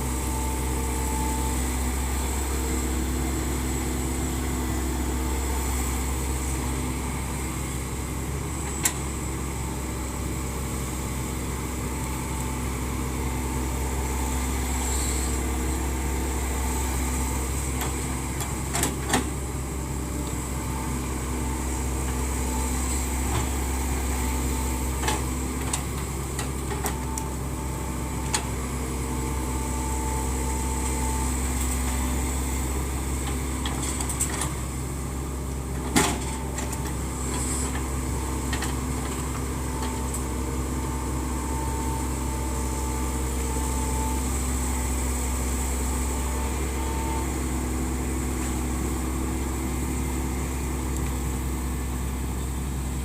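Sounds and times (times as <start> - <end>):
excavator running: 0.0 - 53.0.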